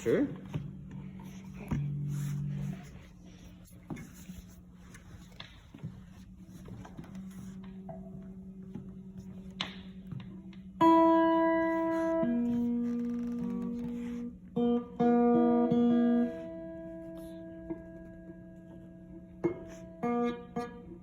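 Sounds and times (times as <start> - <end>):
amplified guitar plucked: 0.0 - 3.4, 7.2 - 21.0.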